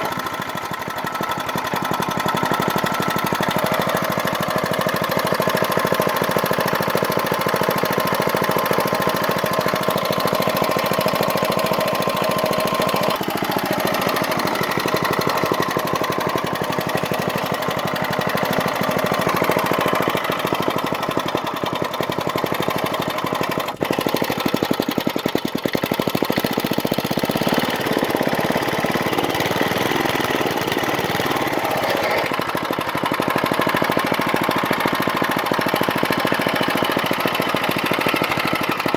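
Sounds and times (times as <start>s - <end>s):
small engine putting: 0.0s - 38.9s.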